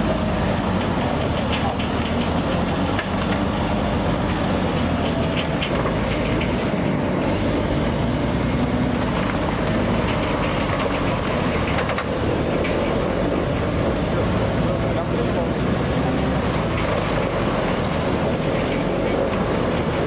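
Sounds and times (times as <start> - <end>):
steel tracks clanking: 0.0 - 20.0
tank engine rumble: 0.0 - 20.0.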